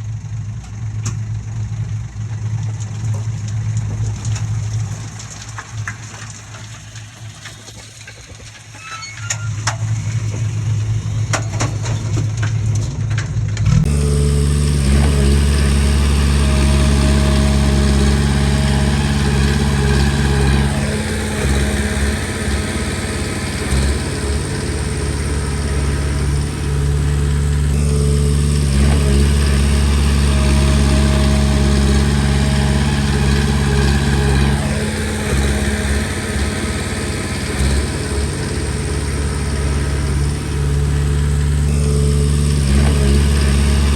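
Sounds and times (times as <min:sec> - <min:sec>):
bulldozer diesel engine working: 0:00.0 - 0:43.9.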